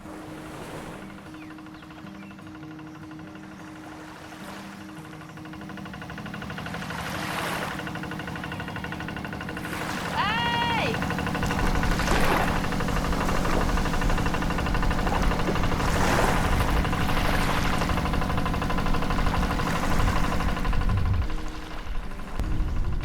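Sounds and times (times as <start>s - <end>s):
engine idling: 1.0s - 23.0s.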